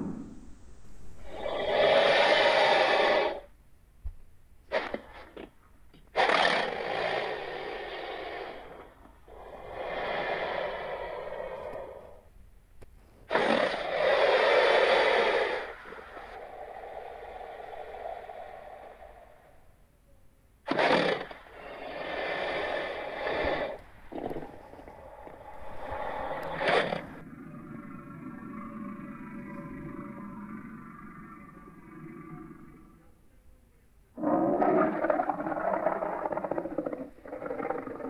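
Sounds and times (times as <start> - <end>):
rasping dinosaur roars and growls: 1.2 - 3.5, 6.2 - 12.3, 13.3 - 19.4, 20.7 - 33.0, 34.2 - 38.0.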